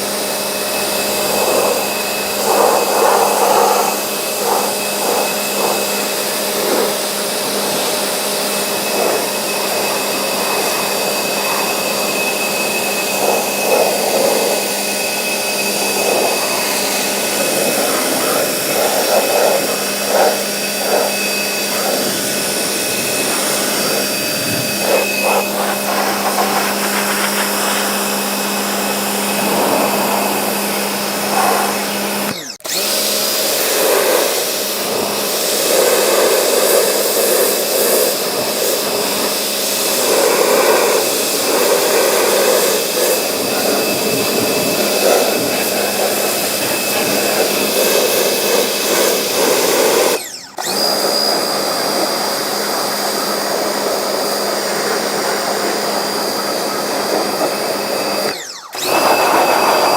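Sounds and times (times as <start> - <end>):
small electric motor running: 0.0 - 59.9.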